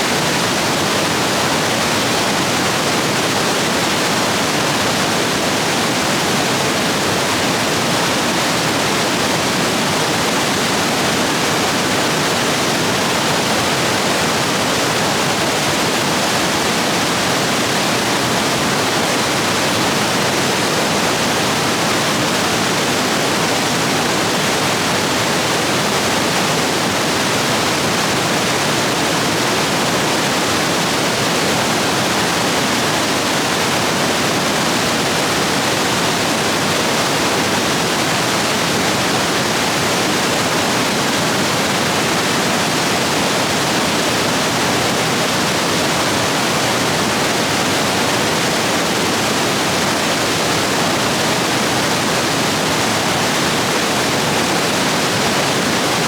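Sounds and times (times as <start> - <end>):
stream rapids rushing: 0.0 - 56.0.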